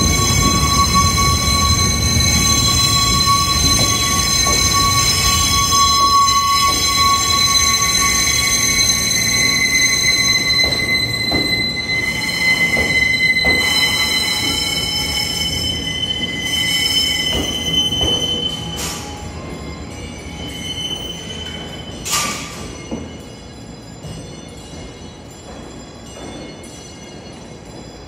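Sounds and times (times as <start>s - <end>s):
low train rumble: 0.0s - 28.0s
train wheels squealing on rails: 0.0s - 28.0s.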